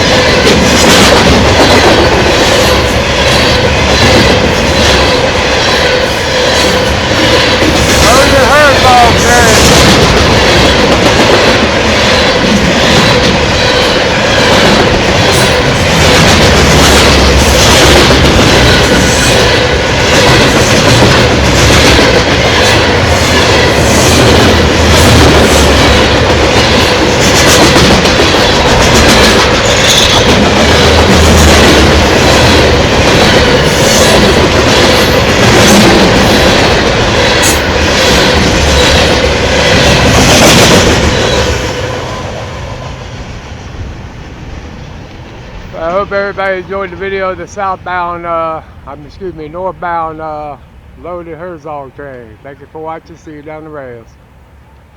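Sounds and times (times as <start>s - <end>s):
train wheels clicking over rail joints: 0.0s - 51.9s
train cars rolling rumble: 0.0s - 54.9s.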